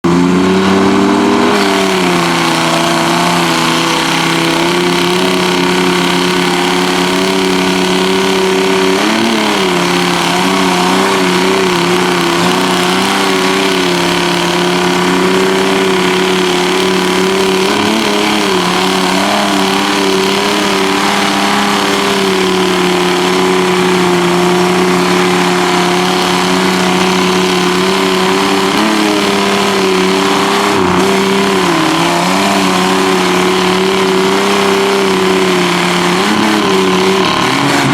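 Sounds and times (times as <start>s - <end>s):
truck engine at high revs: 0.0s - 37.9s.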